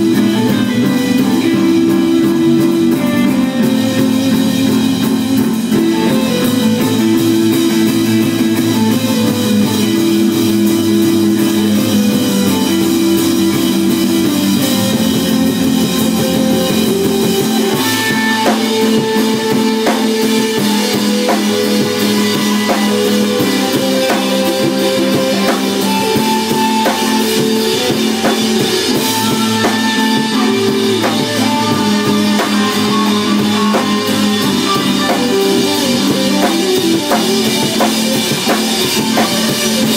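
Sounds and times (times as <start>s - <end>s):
drum kit: 0.0s - 39.9s
guitar: 0.0s - 39.9s
organ chords: 0.0s - 39.9s.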